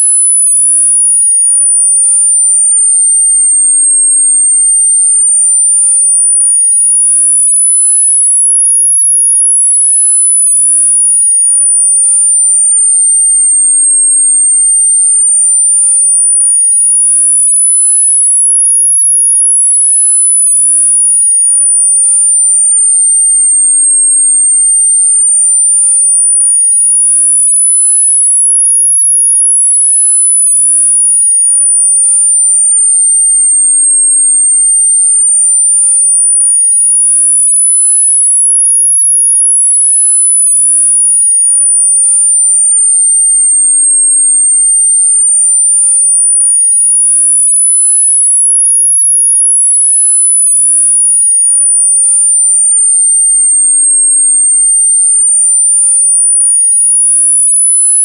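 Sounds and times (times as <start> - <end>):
high-pitched sine tone sweeping: 0.0 - 58.0.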